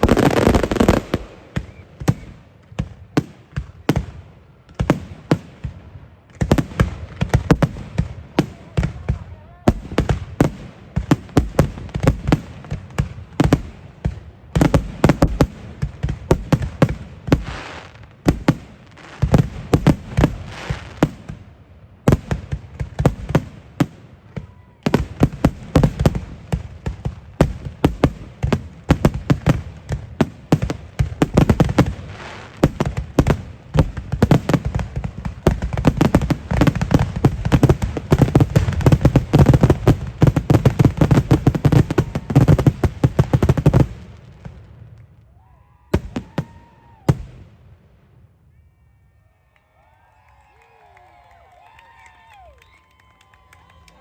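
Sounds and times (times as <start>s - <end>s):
fireworks bursting: 0.0s - 45.2s, 45.9s - 48.2s.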